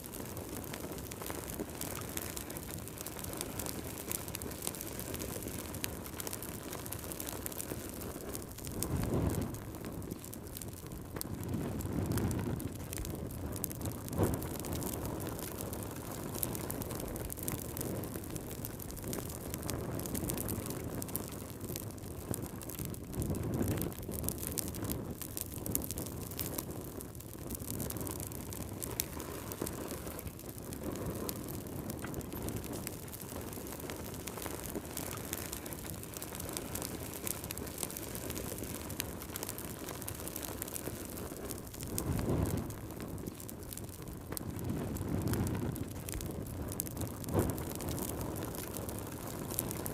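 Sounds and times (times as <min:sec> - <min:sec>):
fire crackling and popping: 0:00.0 - 0:49.9
fire low rumble: 0:00.0 - 0:49.9
whoosh of flame: 0:00.0 - 0:49.9.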